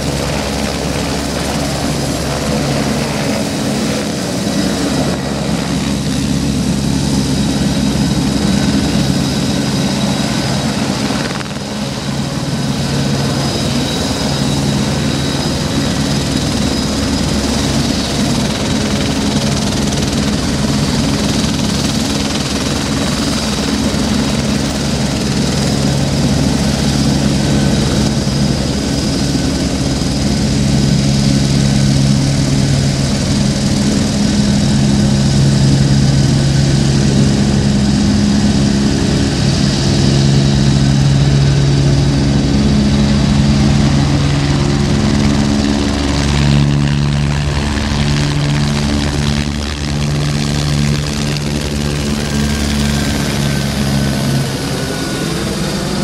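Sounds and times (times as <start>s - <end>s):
helicopter rotor beat: 0.0s - 56.0s
turbine engine whine: 0.0s - 56.0s.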